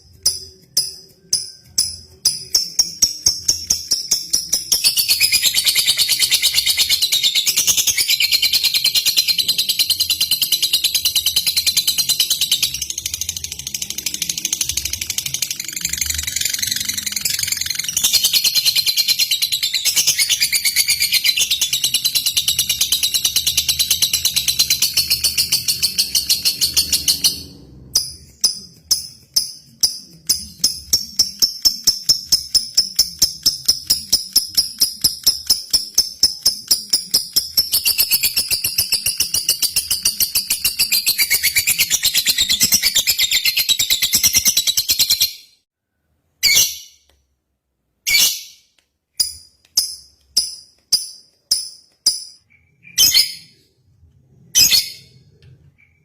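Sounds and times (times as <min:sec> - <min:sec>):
bird chirping: 0:00.0 - 0:45.7, 0:48.0 - 0:56.0.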